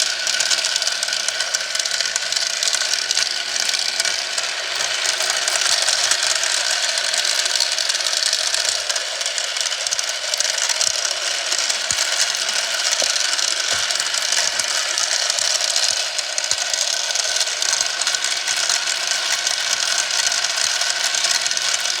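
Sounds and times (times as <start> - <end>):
marbles rattling along marble run: 0.0 - 22.0.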